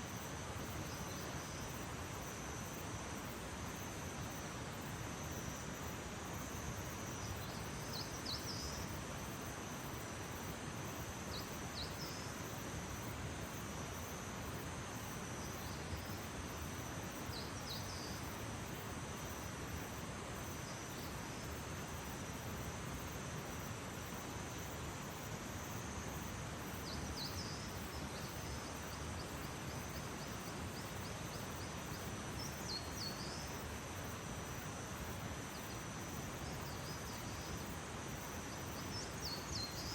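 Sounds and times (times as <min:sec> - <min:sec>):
soft steady hiss: 0:00.0 - 0:39.9
insects trilling: 0:00.1 - 0:39.9.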